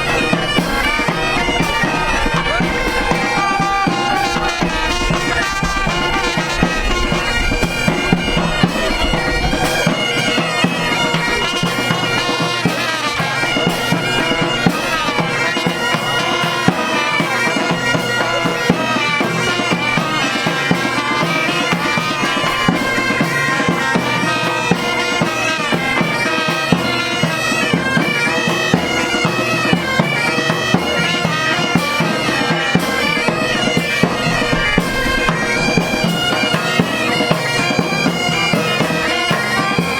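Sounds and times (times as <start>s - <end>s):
bagpipe band playing: 0.0s - 39.9s
sharp drum beats: 0.0s - 39.9s.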